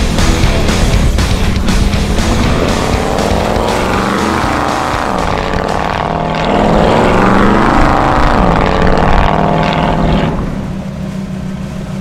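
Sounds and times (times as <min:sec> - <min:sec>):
car engine revving: 0:00.0 - 0:11.4
low engine hum: 0:00.0 - 0:12.0.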